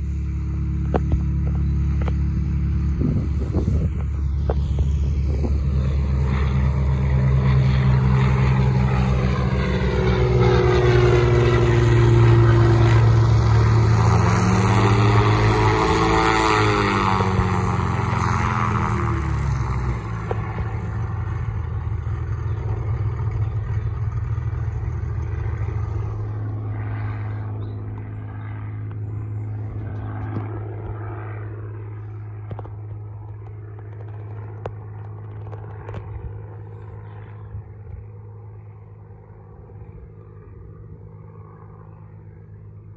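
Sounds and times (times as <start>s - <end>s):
propeller aircraft engine passing: 0.0s - 42.9s.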